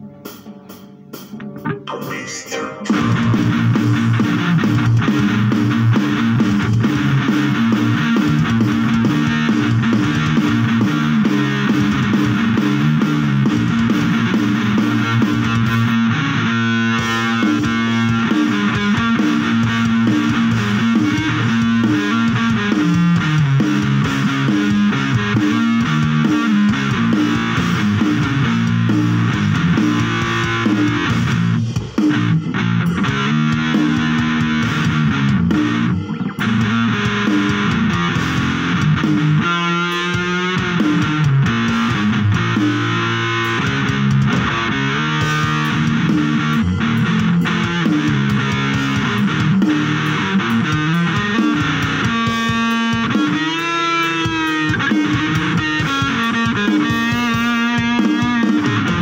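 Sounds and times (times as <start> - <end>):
electric guitar rock riffs: 0.0 - 59.0.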